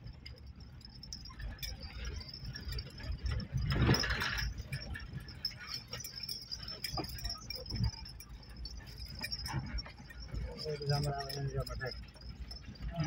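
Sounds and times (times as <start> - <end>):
loose things rattling in car: 0.0 - 13.0
vehicle rumble: 0.0 - 13.0.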